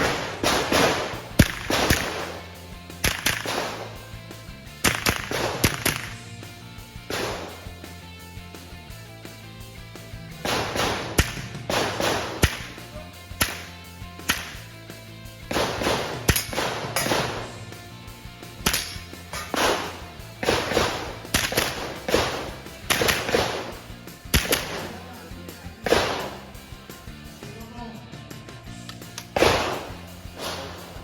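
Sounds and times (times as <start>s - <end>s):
rifle shots: 0.0s - 8.1s, 10.3s - 14.8s, 15.4s - 26.8s, 28.9s - 31.0s.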